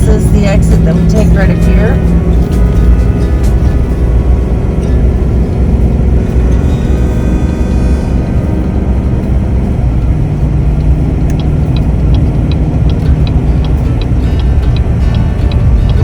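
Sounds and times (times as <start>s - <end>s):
road rumble inside vehicle: 0.0s - 16.0s
turn signal clicking: 0.0s - 16.0s.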